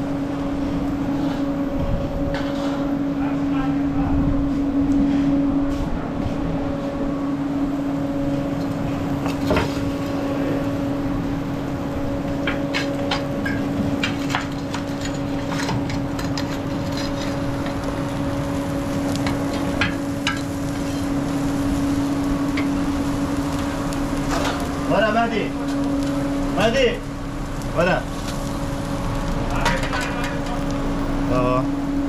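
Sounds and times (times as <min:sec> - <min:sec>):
steady mechanical hum: 0:00.0 - 0:32.0
street background din: 0:00.0 - 0:32.0.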